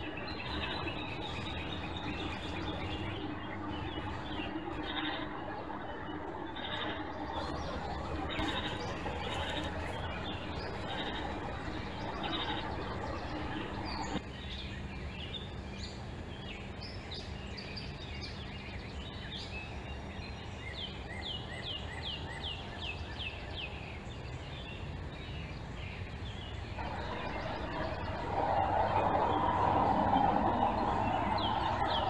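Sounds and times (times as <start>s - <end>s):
low outdoor hum: 0.0s - 32.0s
songbirds singing and chirping: 0.0s - 32.0s.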